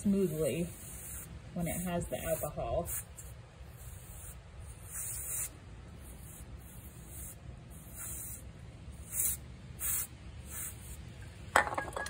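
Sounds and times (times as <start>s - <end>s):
compressed air hissing bursts: 0.2s - 11.1s.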